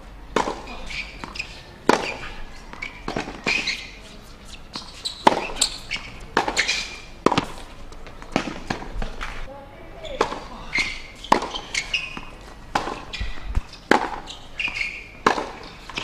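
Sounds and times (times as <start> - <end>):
tennis ball bouncing: 0.3 - 9.4, 10.0 - 16.0
tennis racket hitting ball: 0.3 - 9.4, 10.0 - 16.0.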